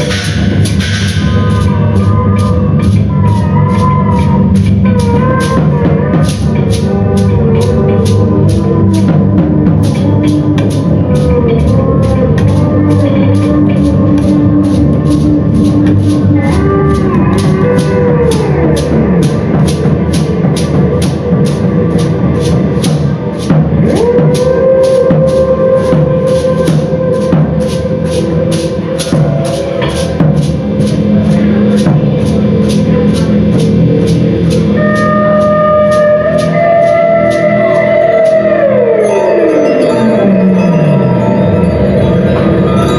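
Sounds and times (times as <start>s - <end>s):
droning tones: 0.0s - 42.9s
high-pitched percussive pulse: 0.0s - 42.9s.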